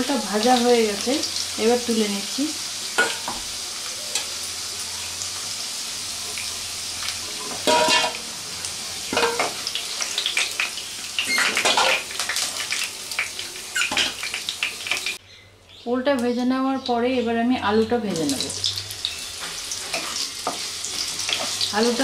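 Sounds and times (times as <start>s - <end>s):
food sizzling in hot oil: 0.0s - 15.2s, 17.6s - 22.0s.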